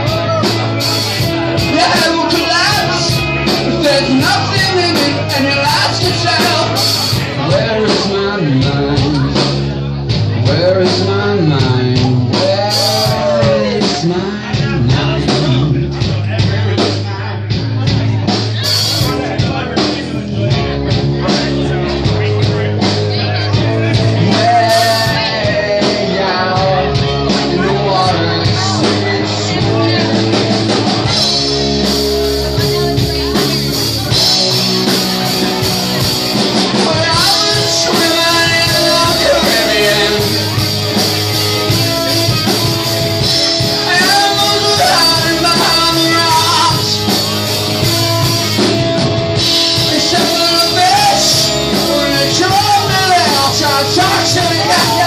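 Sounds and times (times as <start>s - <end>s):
person singing: 0.0s - 16.2s, 18.6s - 48.7s, 49.4s - 55.0s
bass and drums: 0.0s - 55.0s
electric guitars: 0.0s - 55.0s.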